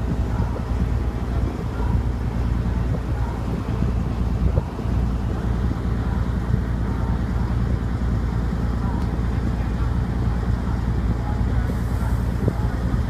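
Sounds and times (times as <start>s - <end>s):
heavy diesel machinery droning: 0.0s - 13.0s.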